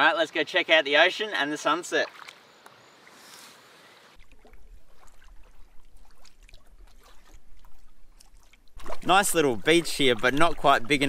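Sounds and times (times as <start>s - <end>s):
paddle splashes and drips: 1.9s - 11.0s
water lapping at hull: 1.9s - 11.0s.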